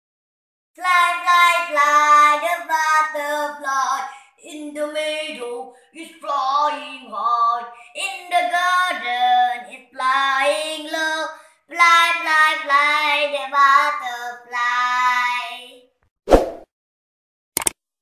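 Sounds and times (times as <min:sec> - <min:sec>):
girl singing: 0:00.8 - 0:15.9.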